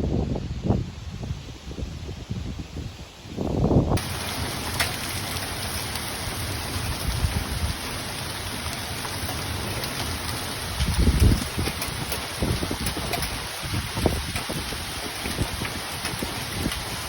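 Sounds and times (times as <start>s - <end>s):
wind rumbling on microphone: 0.0s - 17.0s
heavy rain hissing: 0.2s - 17.0s.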